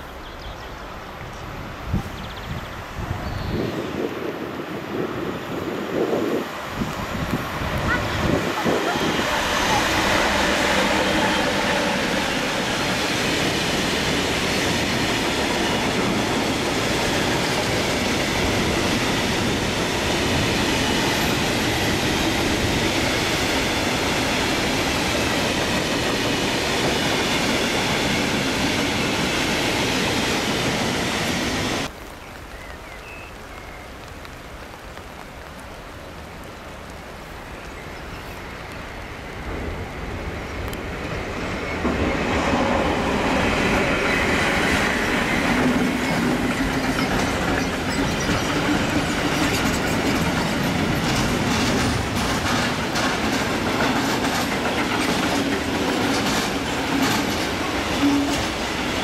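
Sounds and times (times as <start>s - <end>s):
distant train approaching: 0.0s - 31.9s, 37.8s - 59.0s
freight train rumbling past: 0.7s - 31.9s, 38.4s - 59.0s.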